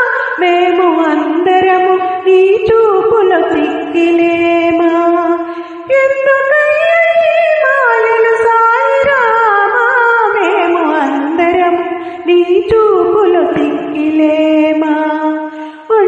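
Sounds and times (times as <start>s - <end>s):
woman singing devotional song: 0.0s - 16.0s.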